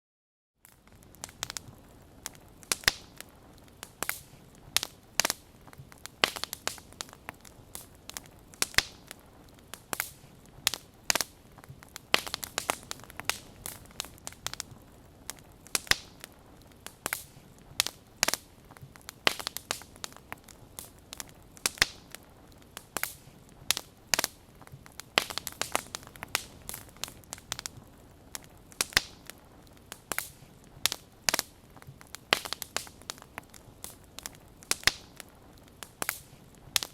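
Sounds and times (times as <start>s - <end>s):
wood fire crackling and popping: 0.6s - 36.9s
faint hiss: 0.8s - 36.9s.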